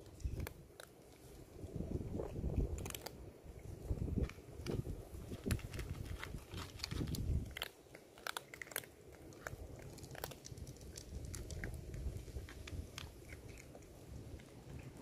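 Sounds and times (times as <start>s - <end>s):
cats crunching food: 0.0s - 15.0s.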